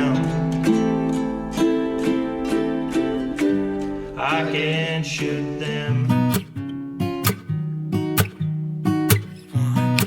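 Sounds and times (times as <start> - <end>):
plucked string instrument strumming: 0.0 - 10.0.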